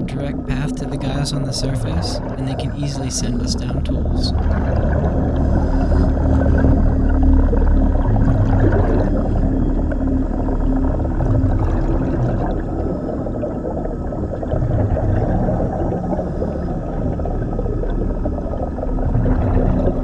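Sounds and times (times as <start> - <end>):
low hum in water: 0.0 - 20.0
underwater rumble and bubbling: 0.0 - 20.0.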